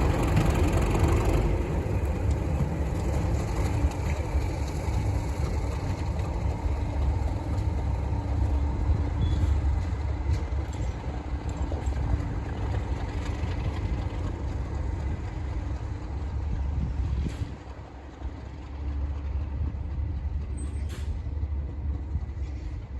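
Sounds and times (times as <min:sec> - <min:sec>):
diesel locomotive engine rumbling: 0:00.0 - 0:22.9.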